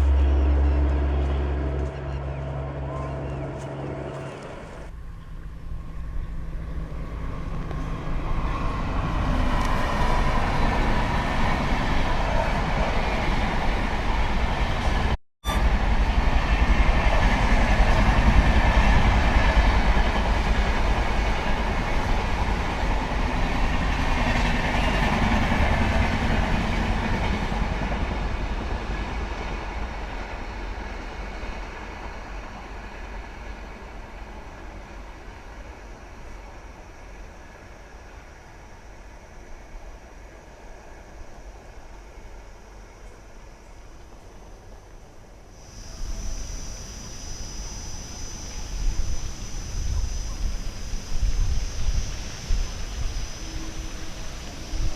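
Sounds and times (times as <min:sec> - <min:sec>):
train wheels rushing on rails: 0:05.8 - 0:42.9, 0:45.5 - 0:54.9.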